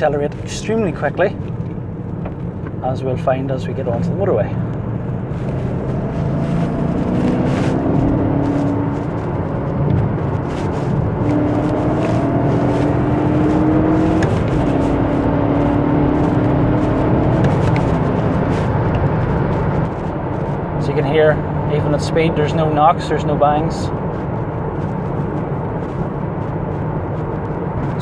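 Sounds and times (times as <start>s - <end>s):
car engine accelerating: 0.0s - 28.0s
road noise: 0.0s - 28.0s.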